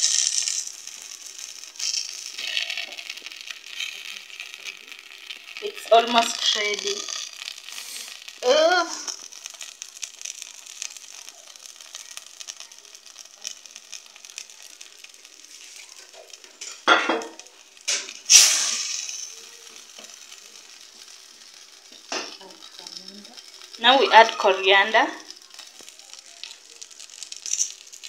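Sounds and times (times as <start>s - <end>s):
stew sizzling in a pot: 0.0s - 28.0s.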